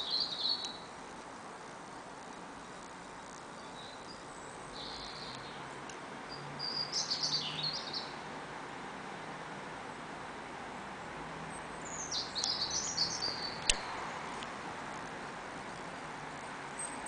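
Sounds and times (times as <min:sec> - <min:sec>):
small birds chirping: 0:00.0 - 0:08.3, 0:11.5 - 0:17.0
steady background hiss: 0:00.0 - 0:17.0.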